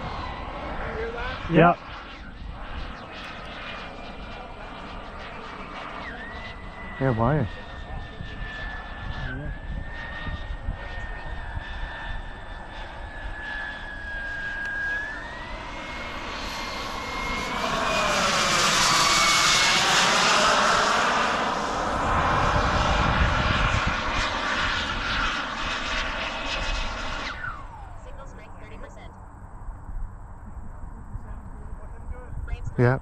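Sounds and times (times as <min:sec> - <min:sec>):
jet rushing pass-by: 0:00.0 - 0:32.0
jet turbine engine whining: 0:00.0 - 0:32.9.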